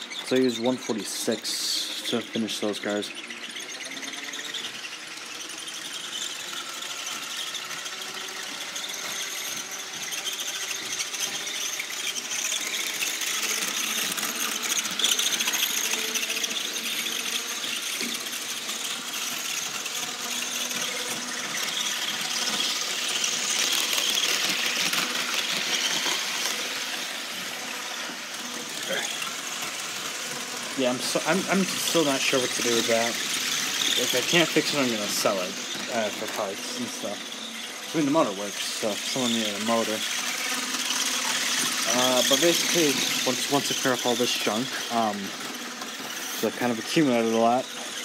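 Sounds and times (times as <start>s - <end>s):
high-pitched squealing: 0.0s - 48.0s
model train running: 0.0s - 48.0s.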